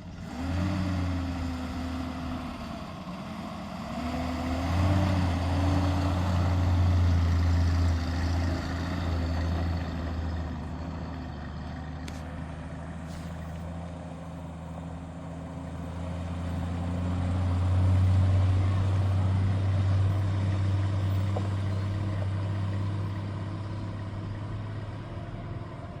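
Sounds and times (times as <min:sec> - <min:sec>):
car engine droning: 0:00.0 - 0:26.0.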